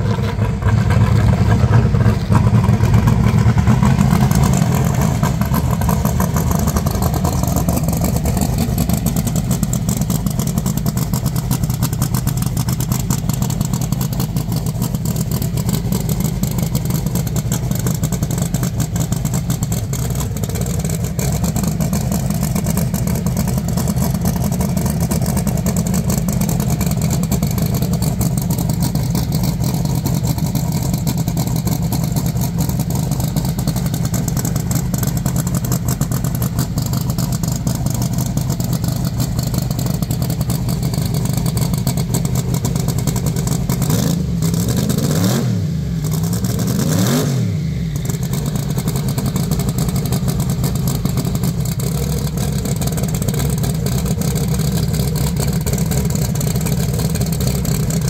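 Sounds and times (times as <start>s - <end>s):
race car engine idling: 0.0s - 58.0s.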